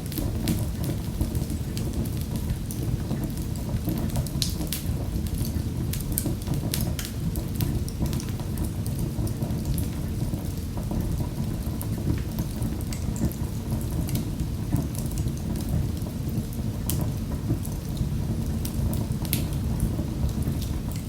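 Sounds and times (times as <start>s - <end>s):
fireplace flames rumbling: 0.0s - 21.0s
wood fire crackling and popping: 0.0s - 21.0s.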